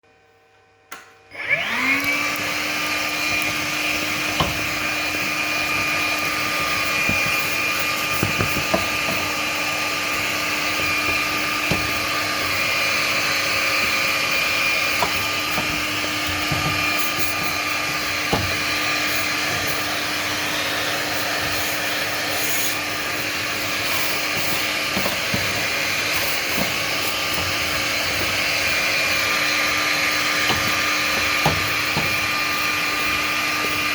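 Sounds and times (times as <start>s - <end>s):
vacuum cleaner whining: 0.9s - 33.9s.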